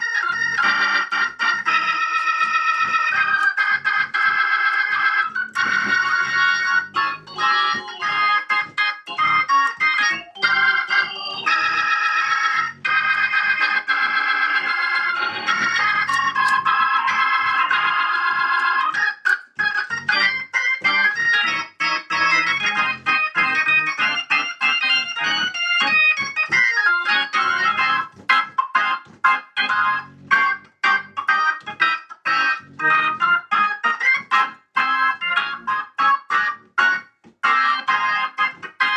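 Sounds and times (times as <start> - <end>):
organ through rotating speaker: 0.0 - 38.9.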